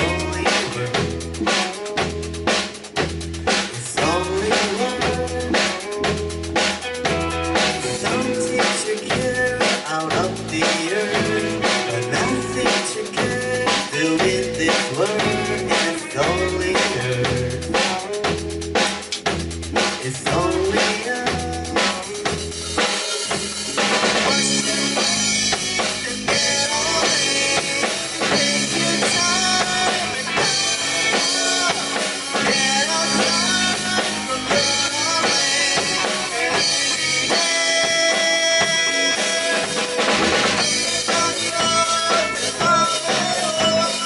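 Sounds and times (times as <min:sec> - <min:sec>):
drum kit beat: 0:00.0 - 0:44.0
rock band playing: 0:00.0 - 0:44.0.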